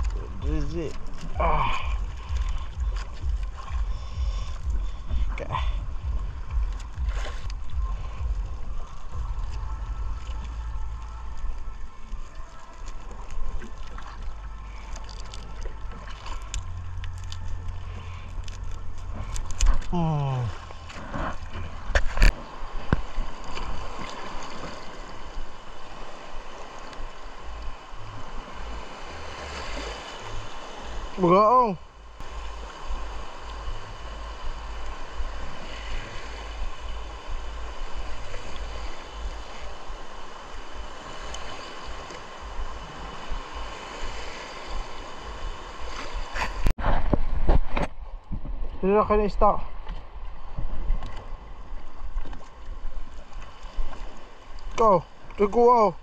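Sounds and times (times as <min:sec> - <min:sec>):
low rumble on microphone: 0:00.0 - 0:48.9
seawater splashing: 0:00.0 - 0:56.0.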